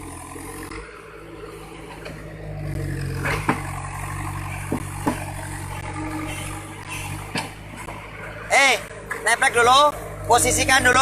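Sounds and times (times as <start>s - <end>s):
backhoe diesel engine running: 0.0s - 11.0s.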